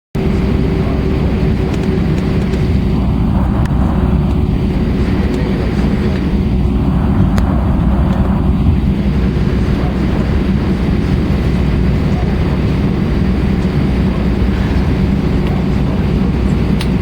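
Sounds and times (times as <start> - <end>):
jet engines low rumble: 0.2 - 17.0.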